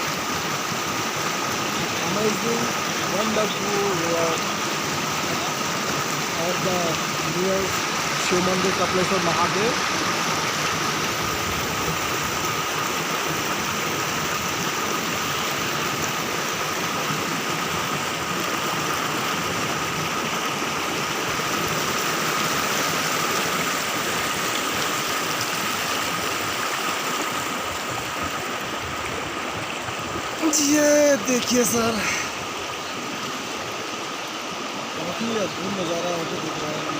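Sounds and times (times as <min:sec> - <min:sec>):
river flowing: 0:00.0 - 0:36.9.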